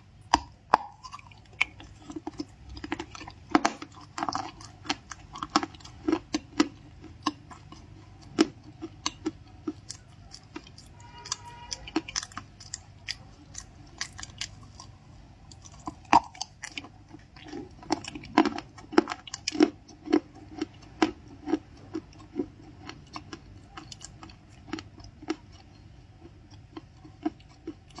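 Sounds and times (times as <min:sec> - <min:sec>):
crunchy cookie chewing: 0:00.0 - 0:28.0.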